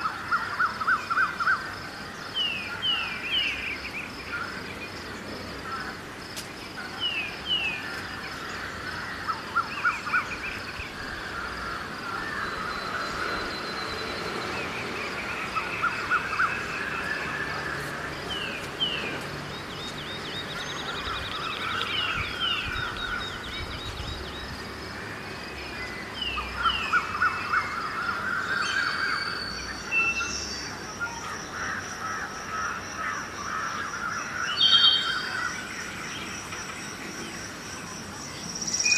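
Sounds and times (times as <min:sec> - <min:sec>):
birds chirping and trilling: 0:00.0 - 0:38.9
distant traffic rumble: 0:00.0 - 0:38.9.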